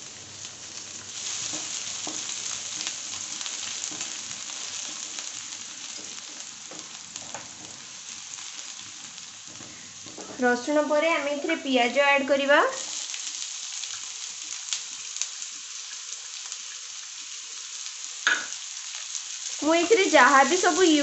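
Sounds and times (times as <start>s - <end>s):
garlic sizzling in hot oil: 0.0s - 21.0s.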